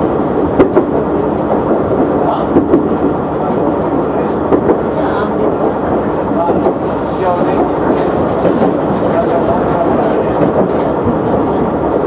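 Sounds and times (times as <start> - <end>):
diesel railcar engine running: 0.0 - 12.0.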